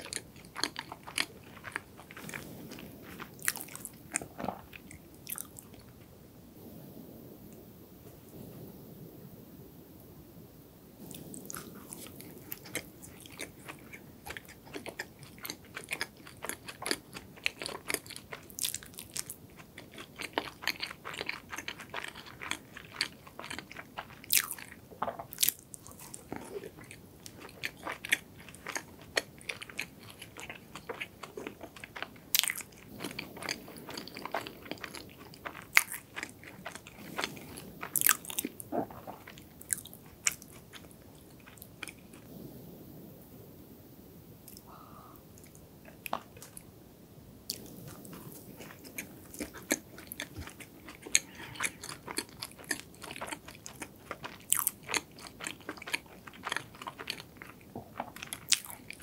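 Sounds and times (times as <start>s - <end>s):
chewing and biting doughnut: 0.0s - 5.6s, 11.5s - 42.3s, 47.5s - 59.0s.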